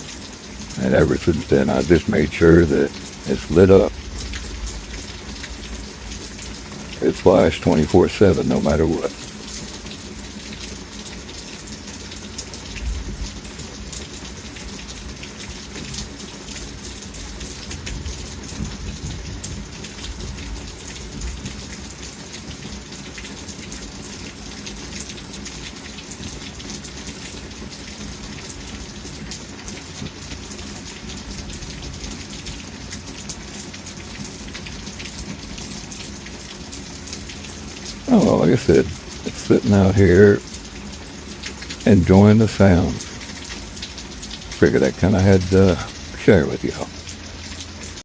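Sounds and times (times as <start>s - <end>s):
heavy rain: 0.0s - 48.0s.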